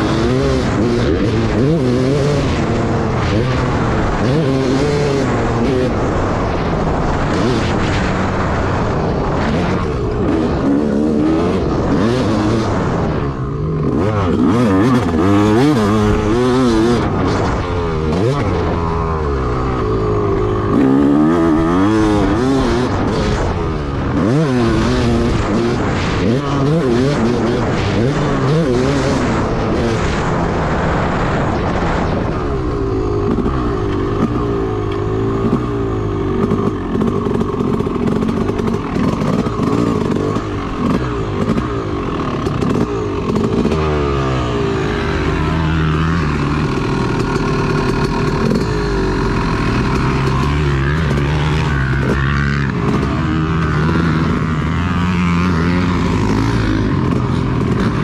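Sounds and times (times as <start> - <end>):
two-stroke motocross bike revving: 0.0 - 58.0.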